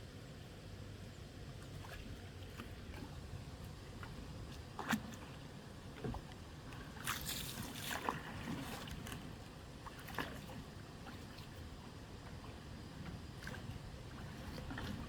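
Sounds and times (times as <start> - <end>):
oars splashing water: 1.6 - 15.0.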